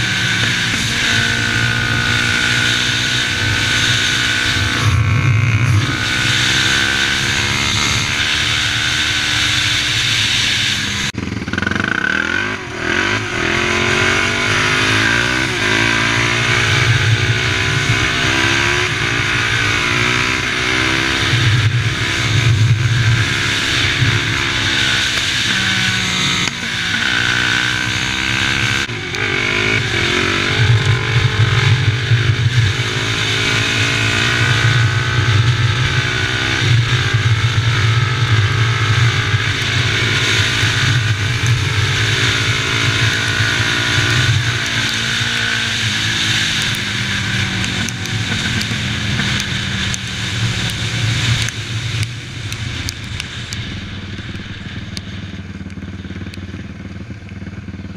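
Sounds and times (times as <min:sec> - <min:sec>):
quad engine revving: 0:00.0 - 0:53.9.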